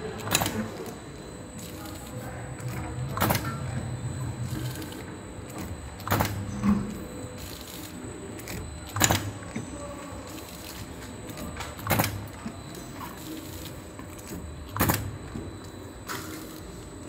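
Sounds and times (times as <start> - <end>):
packing machine clack: 0.0 - 1.0, 1.6 - 17.0
steady mechanical hum: 0.0 - 17.0.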